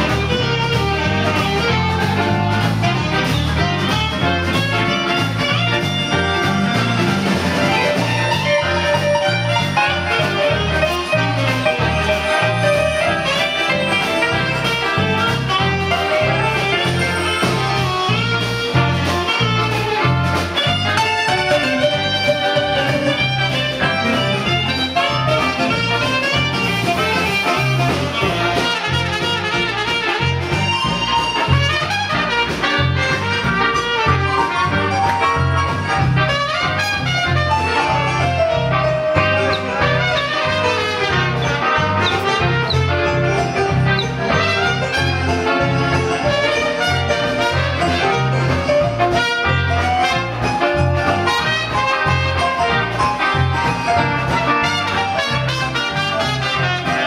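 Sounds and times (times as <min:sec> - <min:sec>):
bass line: 0:00.0 - 0:57.0
drums: 0:00.0 - 0:57.0
electric guitar: 0:00.0 - 0:57.0
saxophone: 0:00.0 - 0:57.0
trumpet: 0:00.0 - 0:57.0.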